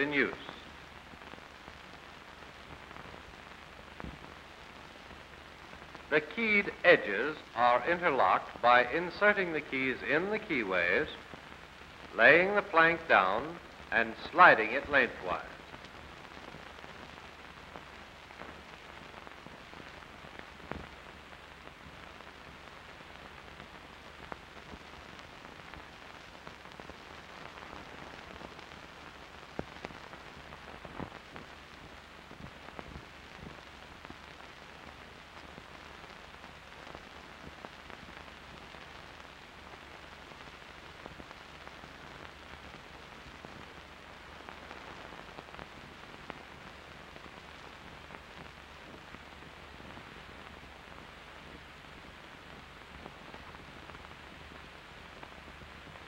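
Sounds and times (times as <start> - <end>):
film soundtrack hiss and crackle: 0.0 - 56.0.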